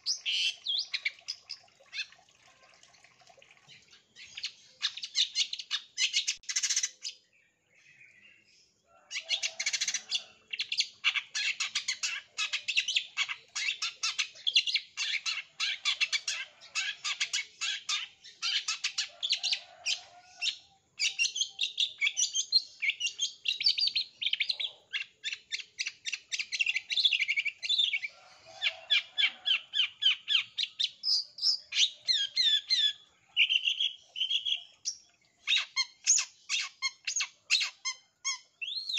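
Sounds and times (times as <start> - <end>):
bird chattering song: 0.0 - 2.0, 4.2 - 7.2, 9.1 - 19.6, 20.4 - 38.9.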